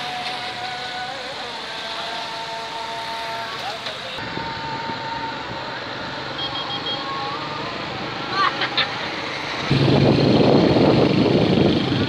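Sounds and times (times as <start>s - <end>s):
road noise from moving vehicle: 0.0s - 12.0s.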